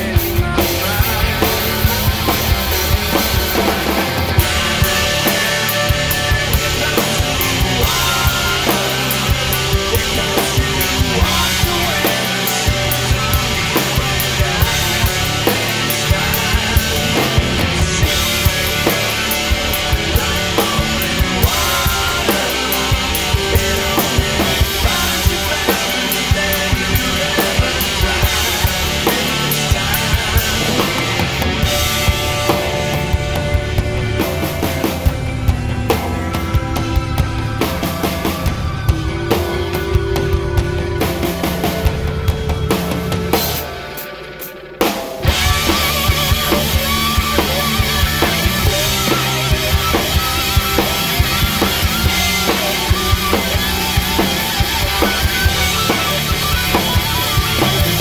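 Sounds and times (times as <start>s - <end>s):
hard rock drumming: 0.0s - 58.0s
loud rock song: 0.0s - 58.0s.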